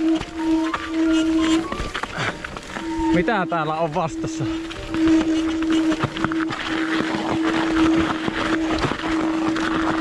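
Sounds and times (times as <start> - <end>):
bike tyre and wind noise: 0.0 - 10.0
steady hum: 0.0 - 10.0.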